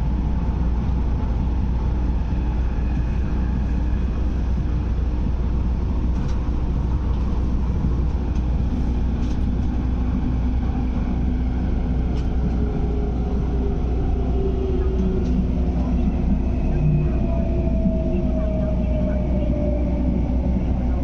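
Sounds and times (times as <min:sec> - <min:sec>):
train cabin low rumble: 0:00.0 - 0:21.0.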